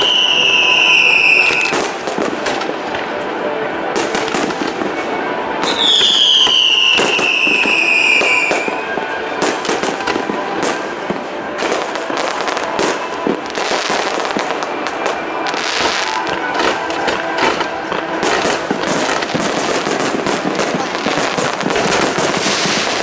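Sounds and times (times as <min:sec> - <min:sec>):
firework whistle falling in pitch: 0:00.0 - 0:03.3, 0:03.9 - 0:23.0
fireworks bangs and crackles: 0:00.0 - 0:23.0.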